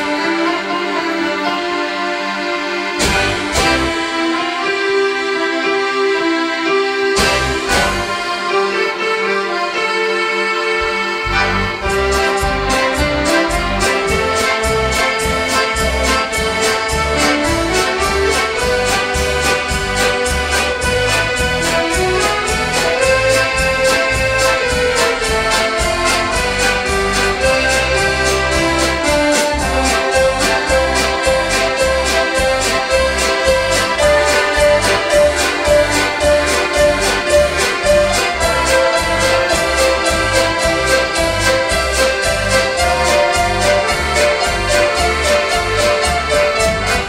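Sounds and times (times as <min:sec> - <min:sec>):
accordion orchestra playing: 0:00.0 - 0:47.0
drum kit beat: 0:03.0 - 0:04.8, 0:07.2 - 0:08.4, 0:11.3 - 0:47.0.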